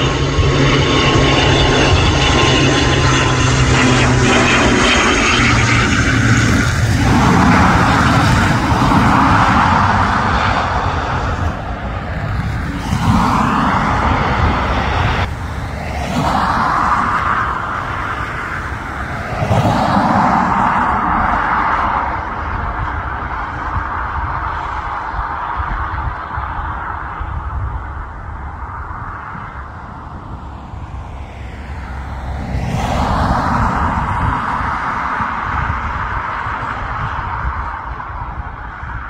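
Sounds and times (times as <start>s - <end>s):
airliner engines running: 0.0s - 39.0s.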